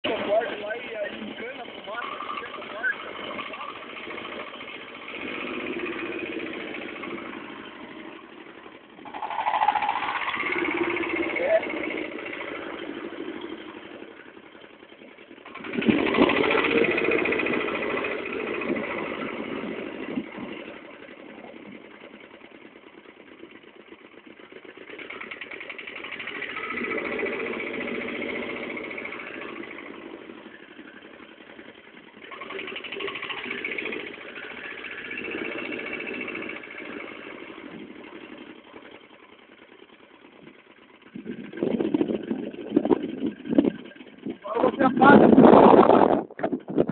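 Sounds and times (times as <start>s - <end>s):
tiller engine running: 0.0s - 46.9s.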